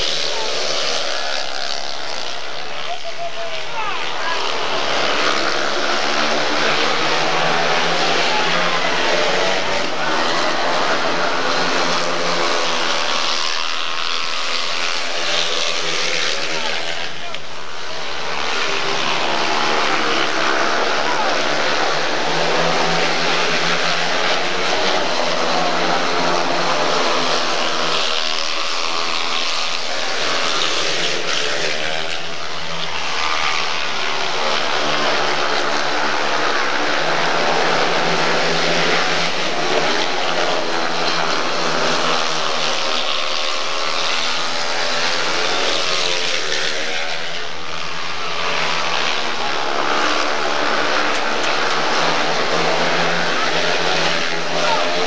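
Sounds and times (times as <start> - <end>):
motorbike engines racing: 0.0 - 55.0.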